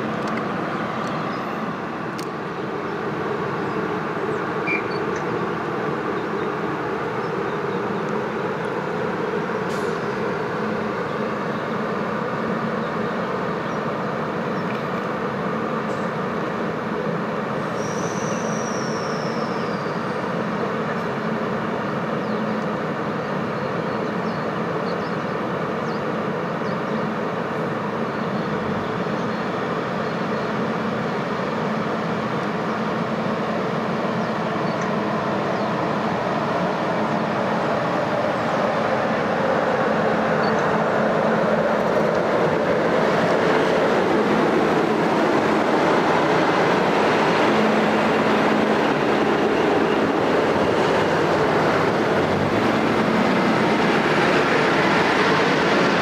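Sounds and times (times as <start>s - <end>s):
diesel train engine idling: 0.0s - 56.0s.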